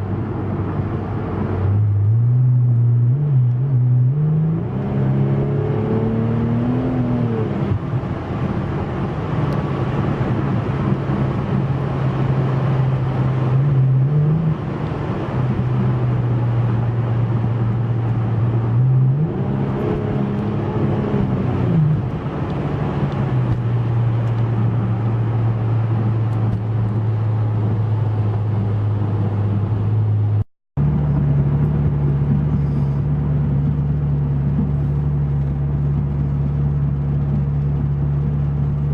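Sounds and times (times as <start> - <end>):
car engine revving: 0.0 - 38.9
wind noise over windshield: 7.5 - 38.9.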